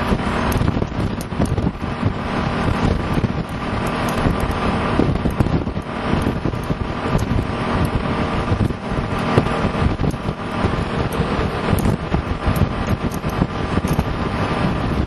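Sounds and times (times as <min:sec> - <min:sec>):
diesel truck engine running: 0:00.0 - 0:15.0
wind buffeting microphone: 0:00.0 - 0:15.0.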